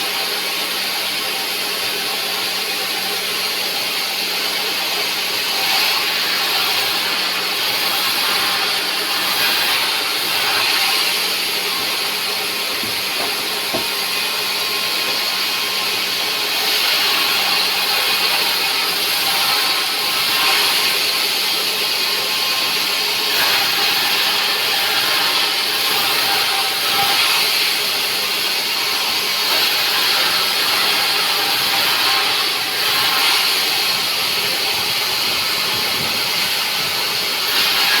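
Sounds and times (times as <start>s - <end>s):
sawmill machinery hissing: 0.0s - 38.0s.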